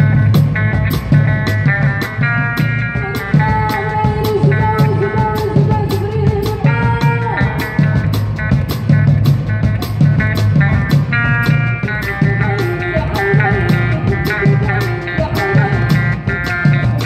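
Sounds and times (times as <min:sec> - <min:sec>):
electric bass: 0:00.0 - 0:17.0
electric guitar: 0:00.0 - 0:17.0
steady drum beat: 0:00.0 - 0:17.0.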